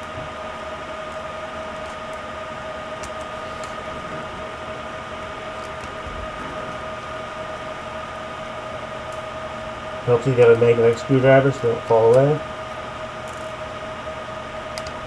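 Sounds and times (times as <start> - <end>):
two-tone whine: 0.0 - 15.0.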